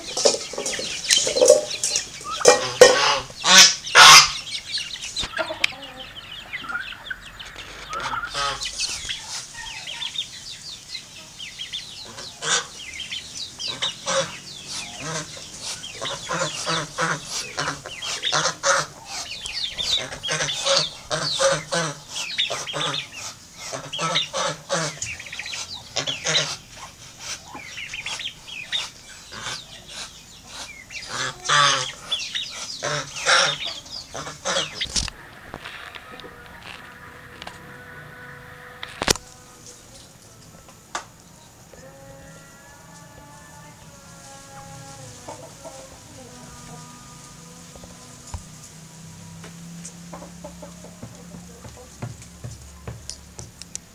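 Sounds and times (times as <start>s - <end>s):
poultry clucking: 0.0s - 53.9s.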